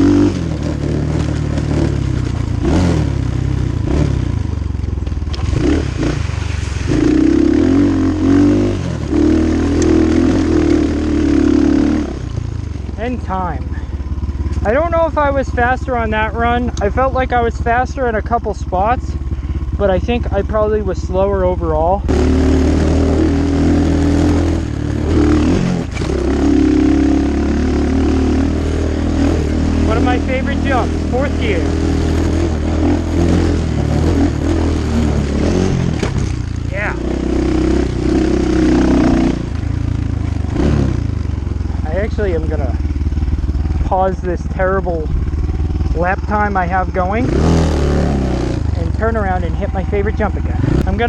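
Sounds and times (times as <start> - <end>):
rattling over rough ground: 0.0 - 7.9, 8.9 - 51.0
dirt bike engine revving: 0.0 - 51.0.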